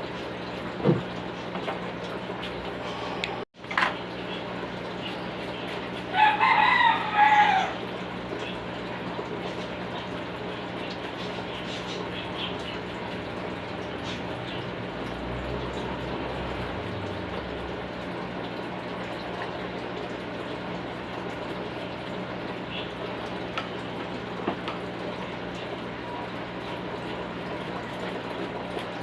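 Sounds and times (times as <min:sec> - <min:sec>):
running water: 0:00.0 - 0:29.0.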